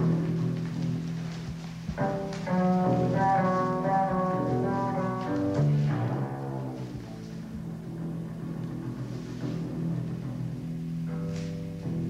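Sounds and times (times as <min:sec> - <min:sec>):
bowed double bass: 0:01.8 - 0:12.0.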